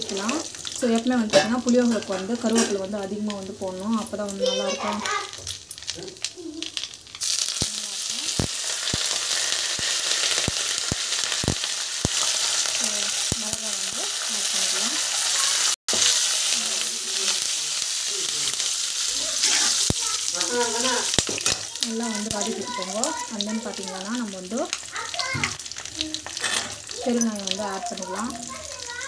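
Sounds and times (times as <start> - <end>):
leaves frying in hot oil: 0.0 - 29.0.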